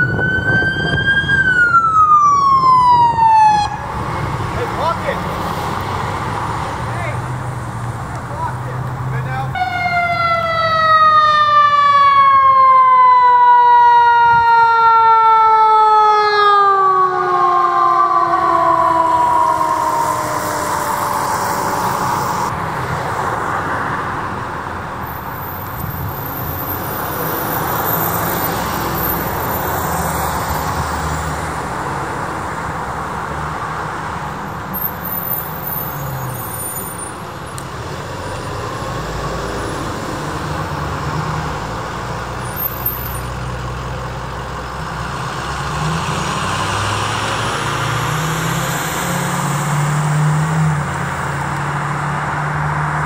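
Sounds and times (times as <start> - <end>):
vehicle engines passing by: 0.0 - 53.0.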